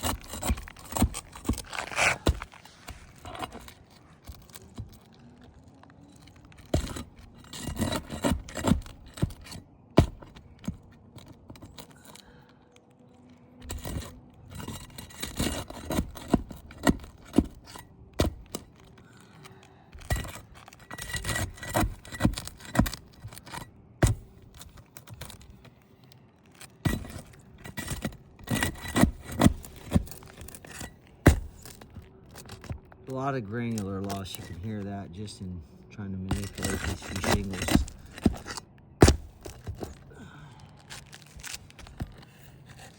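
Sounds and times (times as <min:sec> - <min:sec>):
roof shingles scraping and crackling: 0:00.0 - 0:42.9.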